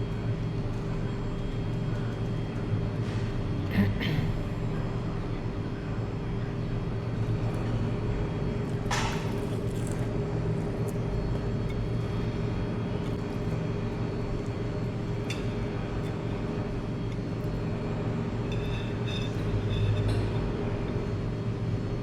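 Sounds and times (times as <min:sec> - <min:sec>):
constant hum: 0:00.0 - 0:22.0.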